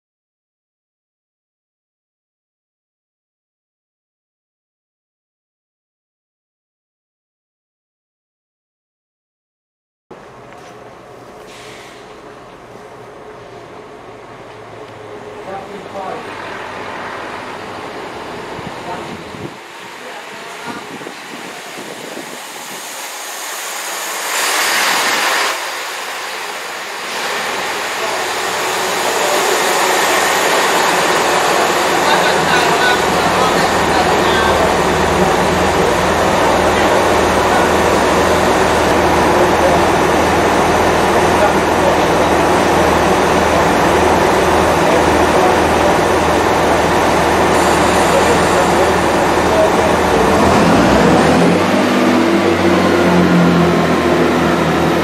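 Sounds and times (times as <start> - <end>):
diesel engines humming: 10.1 - 55.0
train wheel and running noise: 10.1 - 55.0.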